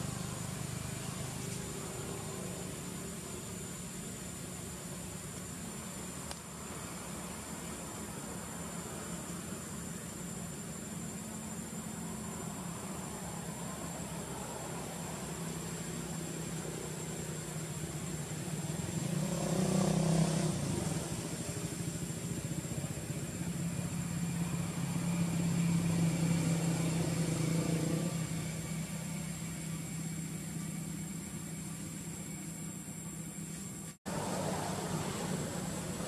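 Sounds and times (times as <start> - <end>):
vehicle engine drone: 0.0 - 36.0.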